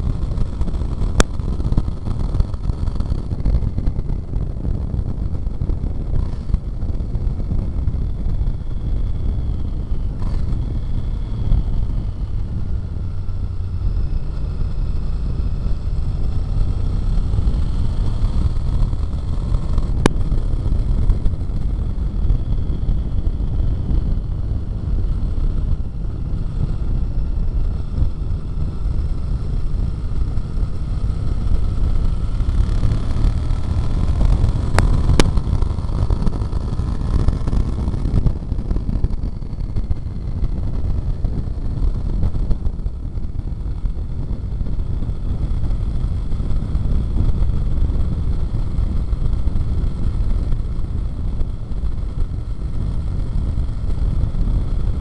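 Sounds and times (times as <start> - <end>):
motorcycle engine rumble: 0.0 - 55.0
wind rush over microphone: 0.0 - 55.0.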